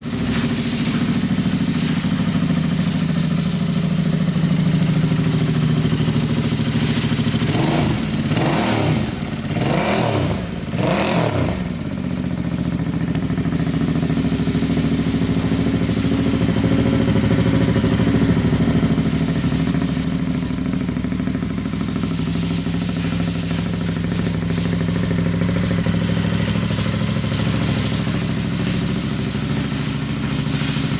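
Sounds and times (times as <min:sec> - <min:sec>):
engine throttle blips: 0:00.0 - 0:30.9
motorcycle engine idling: 0:00.0 - 0:30.9.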